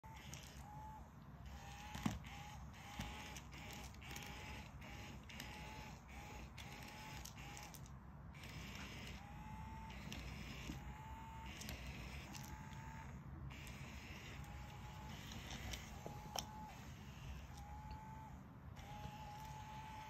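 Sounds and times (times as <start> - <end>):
small electric motor whirring: 0.0 - 20.0
toy whine and tick: 0.0 - 20.0.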